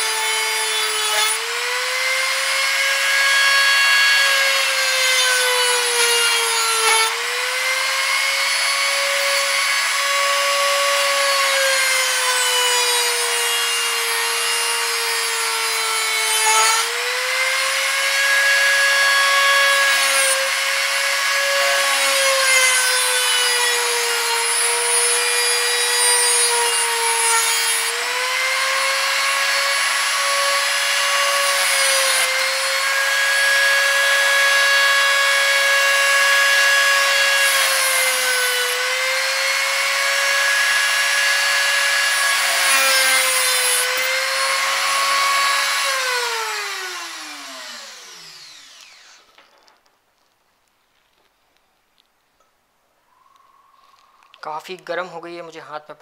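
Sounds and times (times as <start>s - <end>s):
die grinder cutting metal: 0.0s - 49.5s.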